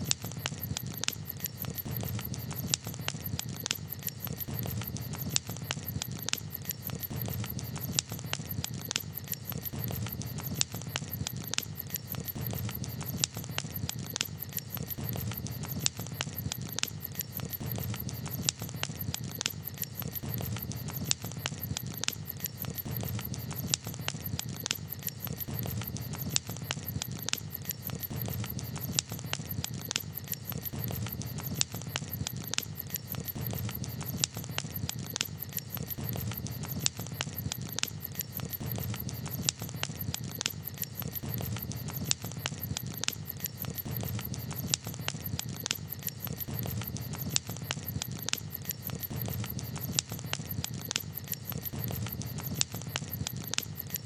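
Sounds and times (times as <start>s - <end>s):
campfire pops and snaps: 0.0s - 54.0s
low rumble of fire: 0.0s - 54.0s.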